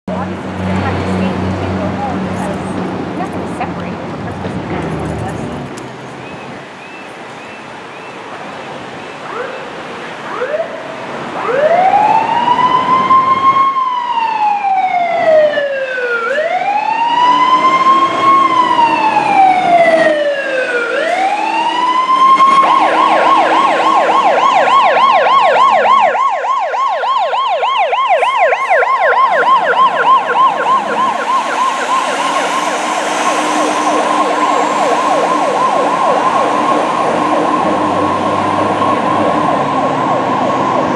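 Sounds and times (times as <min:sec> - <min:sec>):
emergency vehicle siren: 0:00.1 - 0:03.7, 0:08.4 - 0:40.9.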